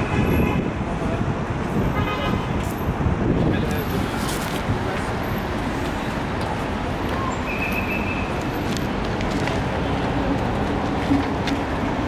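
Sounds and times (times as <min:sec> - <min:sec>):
passing cars traffic noise: 0:00.0 - 0:12.0.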